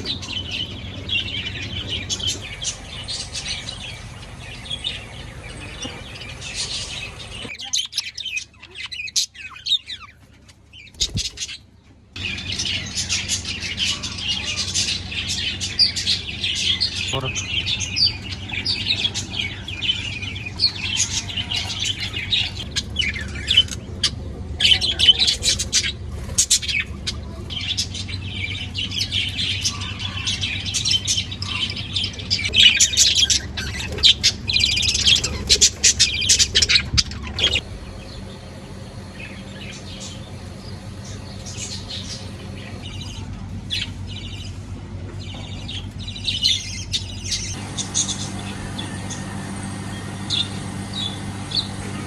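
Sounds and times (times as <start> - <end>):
pet birds chirping: 0.0 - 52.0.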